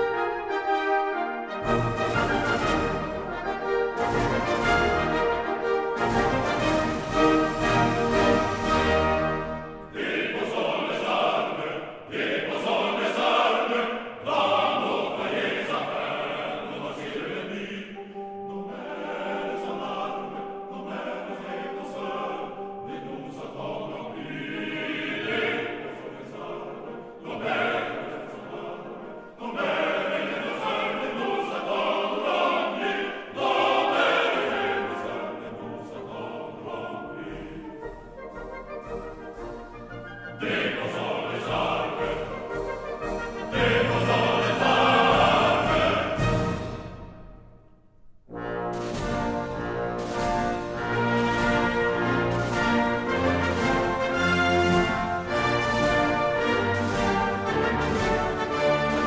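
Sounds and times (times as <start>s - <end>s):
operatic choir singing: 0.0s - 47.6s, 48.3s - 59.0s.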